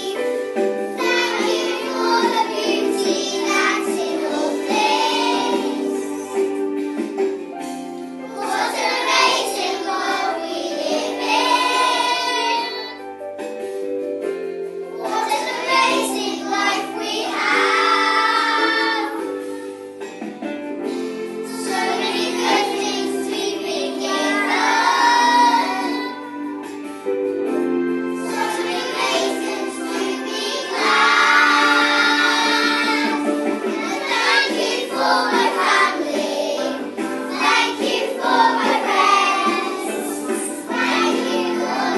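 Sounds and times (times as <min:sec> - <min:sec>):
children singing together: 0:00.0 - 0:06.6, 0:08.2 - 0:13.1, 0:14.9 - 0:20.1, 0:20.9 - 0:26.8, 0:28.2 - 0:41.9
musical accompaniment: 0:00.0 - 0:41.9.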